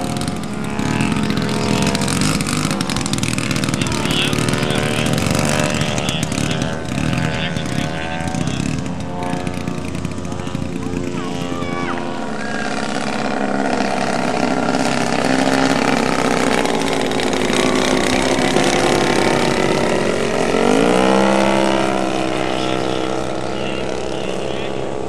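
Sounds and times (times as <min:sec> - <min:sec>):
model airplane engines: 0:00.0 - 0:25.0.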